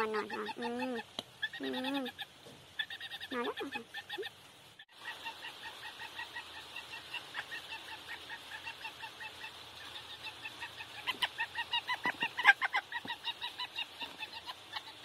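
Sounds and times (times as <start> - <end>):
young guineafowl peeping: 0.0 - 15.0.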